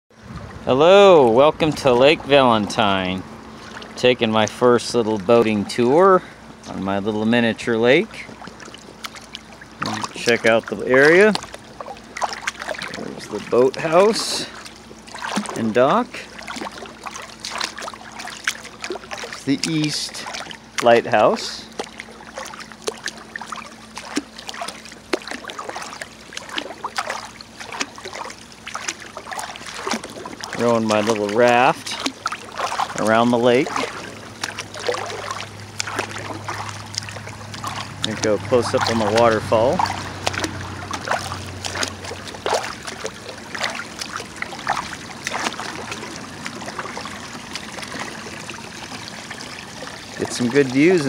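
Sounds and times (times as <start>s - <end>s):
oars splashing and dripping: 0.1s - 51.0s
faint hum: 0.2s - 51.0s
small waterfall trickling: 8.3s - 51.0s.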